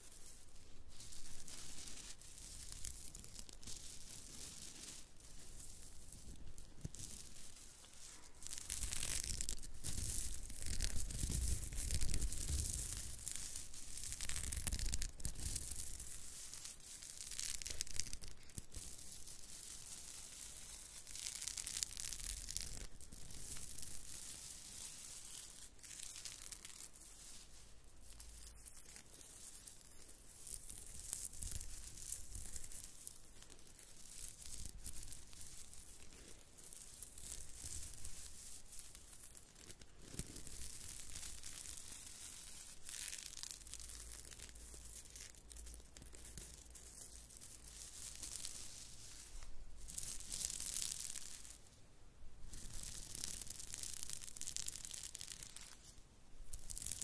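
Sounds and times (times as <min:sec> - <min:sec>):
sequins rustling under fingers: 0:00.0 - 0:57.0.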